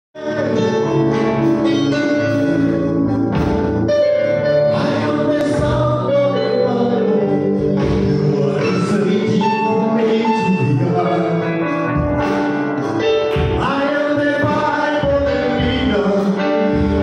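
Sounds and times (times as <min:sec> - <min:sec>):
group singing gospel: 0:00.2 - 0:11.6, 0:13.4 - 0:17.0
keyboard accompaniment: 0:00.2 - 0:17.0.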